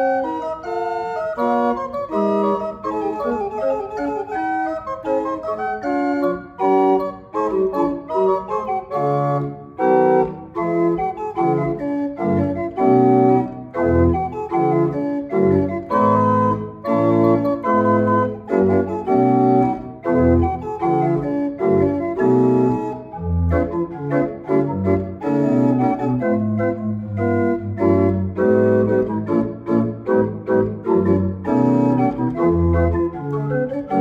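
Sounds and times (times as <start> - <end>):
pipe organ playing chords: 0.0 - 34.0.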